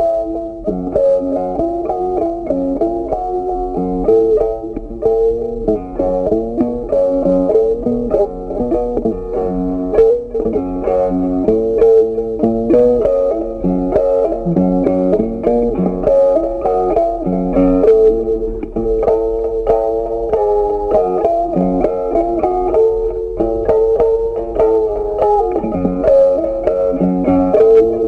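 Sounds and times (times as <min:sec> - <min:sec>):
instrumental music with plucked notes: 0:00.0 - 0:28.0.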